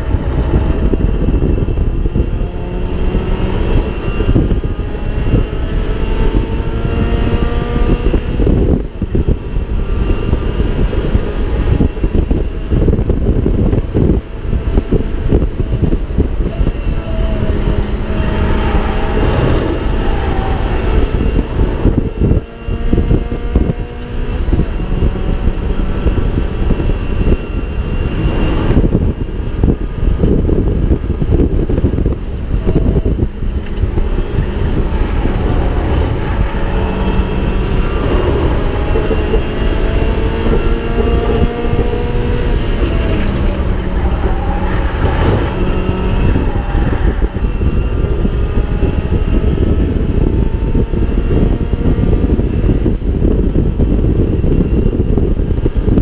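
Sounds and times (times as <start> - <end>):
heavy rumble: 0.0 - 56.0
race car engine through gears: 0.0 - 56.0
wind buffeting: 0.0 - 56.0.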